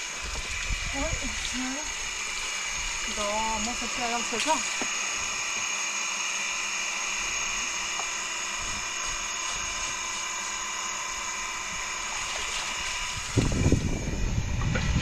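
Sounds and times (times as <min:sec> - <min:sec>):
small motor whining: 0:00.0 - 0:15.0.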